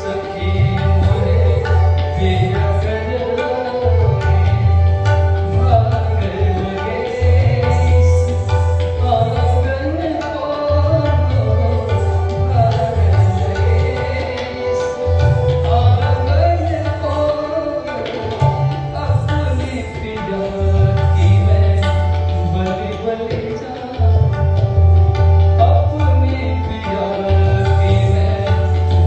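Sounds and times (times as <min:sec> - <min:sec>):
person singing melody: 0:00.0 - 0:29.0
tabla rhythm: 0:00.0 - 0:29.0.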